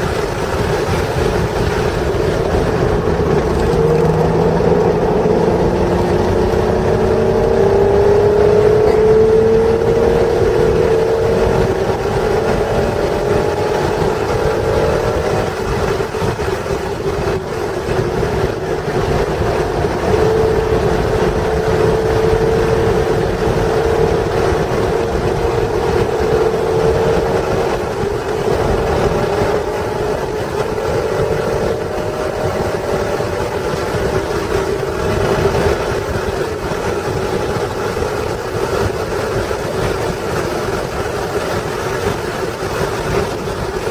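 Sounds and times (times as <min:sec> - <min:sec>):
car engine accelerating: 0:00.0 - 0:43.9
wind and road noise: 0:00.0 - 0:43.9.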